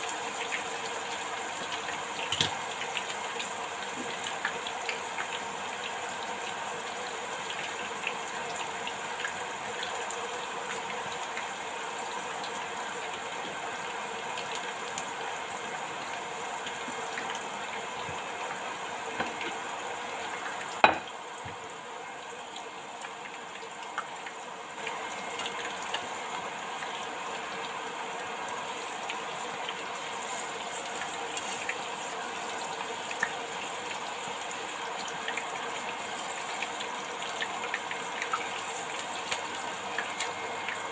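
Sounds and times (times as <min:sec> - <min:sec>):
food deep-frying in oil: 0:00.0 - 0:40.9.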